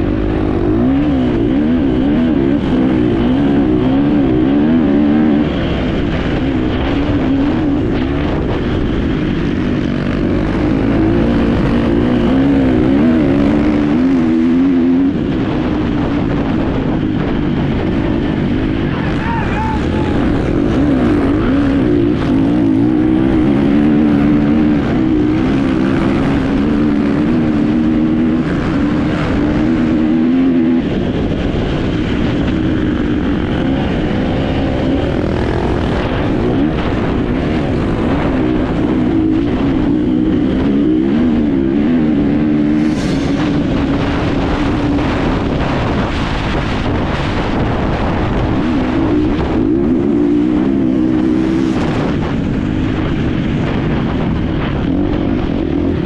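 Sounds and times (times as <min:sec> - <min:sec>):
motorcycle engine racing: 0:00.0 - 0:56.0
wind noise: 0:00.0 - 0:56.0.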